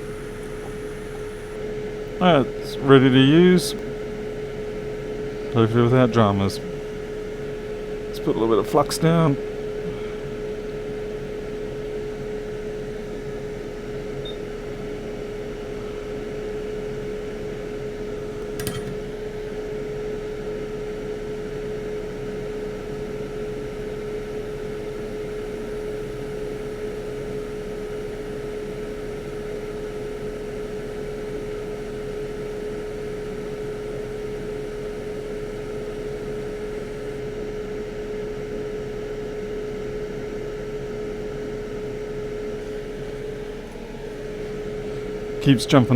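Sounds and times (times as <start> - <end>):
blower fan whirring: 0.0 - 45.9.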